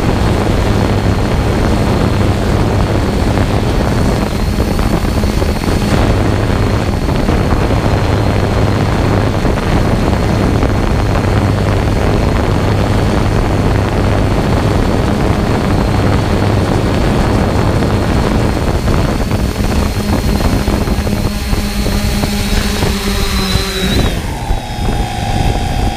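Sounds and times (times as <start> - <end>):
drone motors and propellers whining: 0.0 - 25.9.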